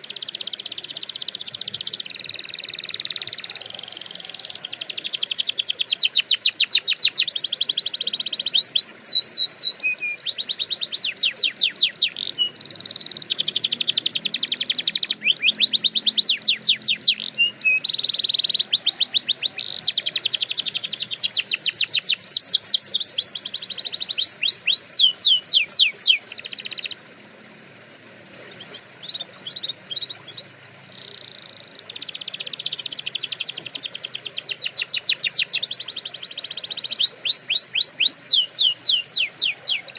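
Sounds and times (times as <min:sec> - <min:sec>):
canary singing trills: 0:00.0 - 0:27.5, 0:28.4 - 0:39.9.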